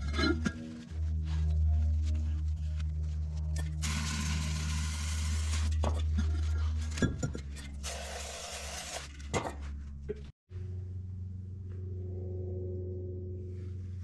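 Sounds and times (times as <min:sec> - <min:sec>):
low hum: 0:00.0 - 0:08.3, 0:09.1 - 0:14.0.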